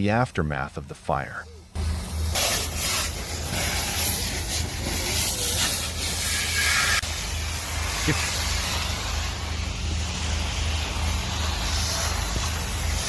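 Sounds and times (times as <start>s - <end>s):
dense rushing hiss: 1.8s - 13.0s.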